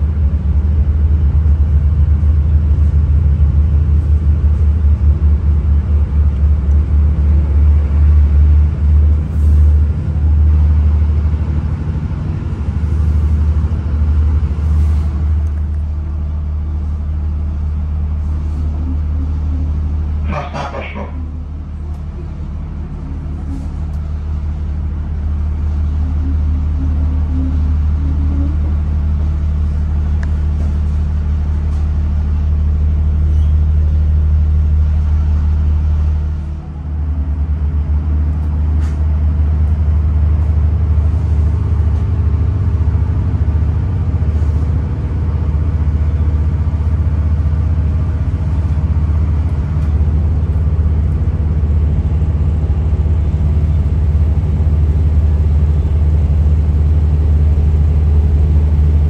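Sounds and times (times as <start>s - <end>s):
train engine hum and rumble: 0.0s - 59.0s.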